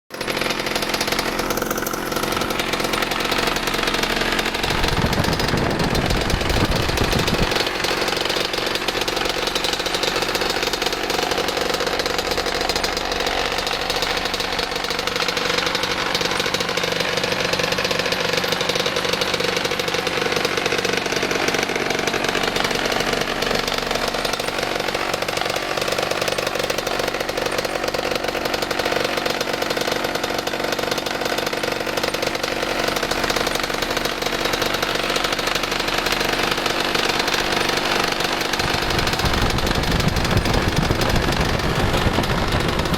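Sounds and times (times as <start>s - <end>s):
paratrike engine running: 0.1s - 42.9s.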